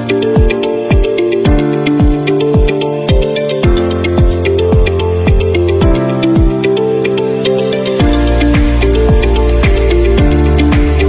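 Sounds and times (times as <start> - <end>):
kick drum beat: 0.0 - 6.6, 8.0 - 11.0.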